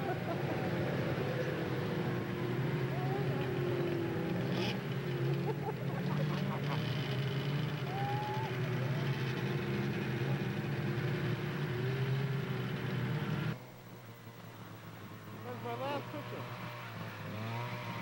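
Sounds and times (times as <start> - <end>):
snowmobile engine running: 0.0 - 13.6, 14.9 - 18.0.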